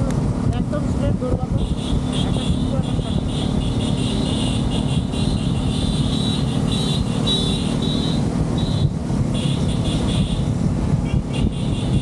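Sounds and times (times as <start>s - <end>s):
motorcycle engine running: 0.0s - 12.0s
road rumble: 0.0s - 12.0s
wind noise: 0.0s - 12.0s.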